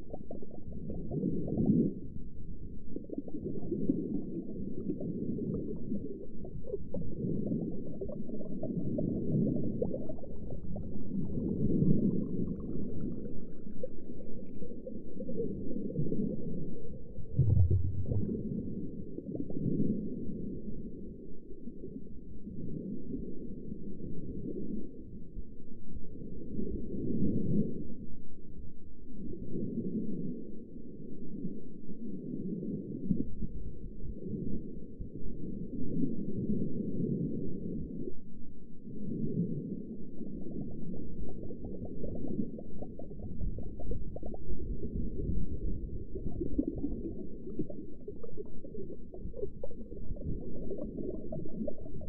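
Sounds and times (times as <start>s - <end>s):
underwater rumble of moving water: 0.0s - 52.0s.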